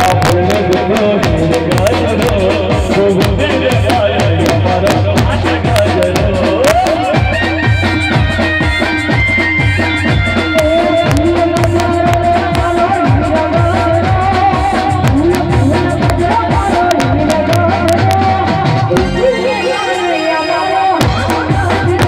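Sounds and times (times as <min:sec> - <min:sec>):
folk band music over loudspeakers: 0:00.0 - 0:22.0.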